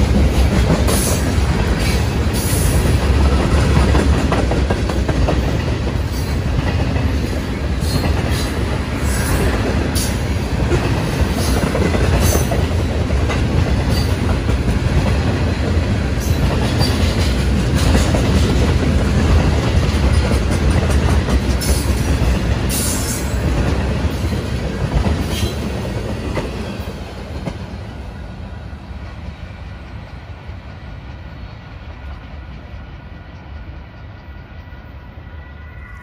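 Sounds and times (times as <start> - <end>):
sharp clicks of train wheels: 0.0 - 36.0
train wheels rumbling on rails: 0.0 - 36.0.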